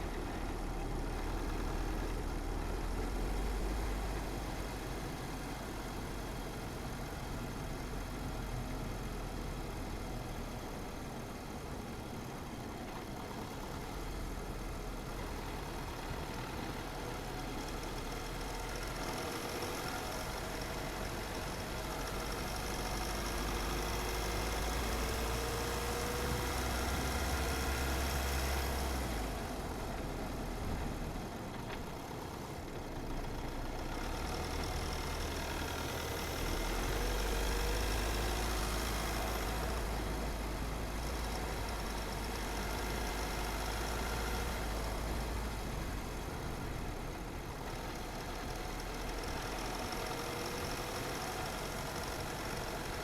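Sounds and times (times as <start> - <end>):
car engine: 0.0 - 53.0.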